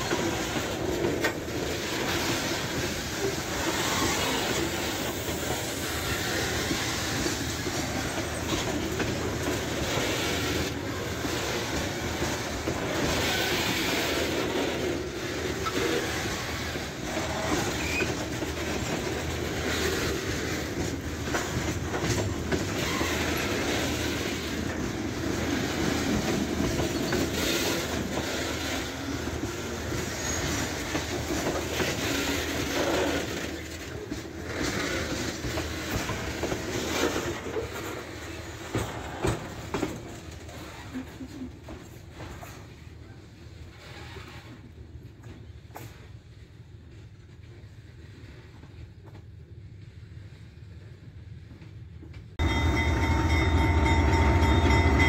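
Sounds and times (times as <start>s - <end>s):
train wheels rolling on rail: 0.0s - 55.0s.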